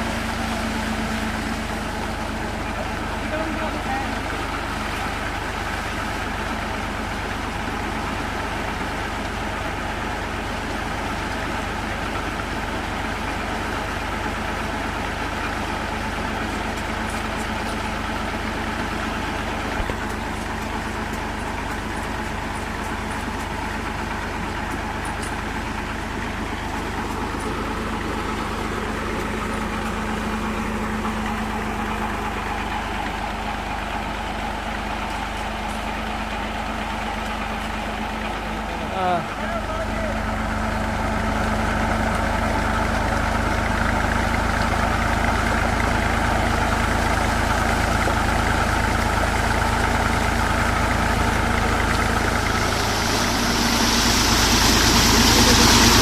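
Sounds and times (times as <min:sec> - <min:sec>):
tractor engine running steadily: 0:00.0 - 0:56.0.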